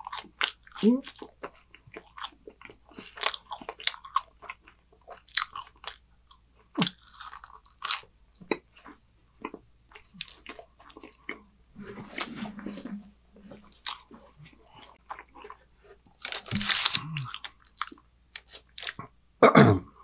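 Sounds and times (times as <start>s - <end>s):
chewing food: 0.0s - 19.1s.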